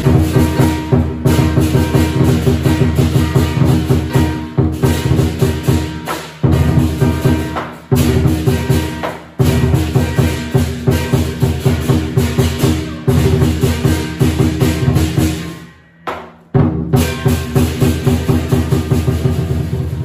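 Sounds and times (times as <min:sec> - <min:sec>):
cymbals clashing: 0:00.0 - 0:20.0
drum beating: 0:00.0 - 0:20.0.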